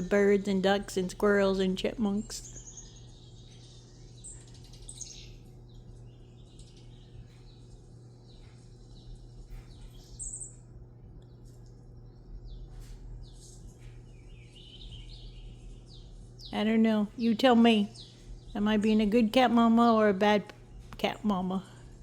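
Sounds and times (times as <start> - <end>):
low steady hum: 0.0 - 22.0
songbirds chirping through speakers: 0.0 - 22.0.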